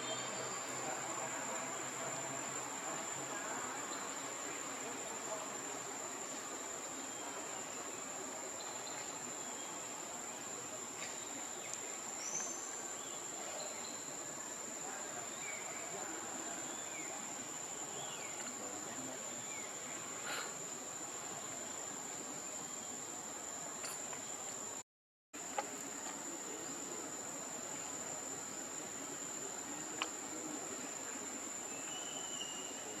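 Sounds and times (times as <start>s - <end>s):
background hiss: 0.0s - 24.8s, 25.4s - 33.0s.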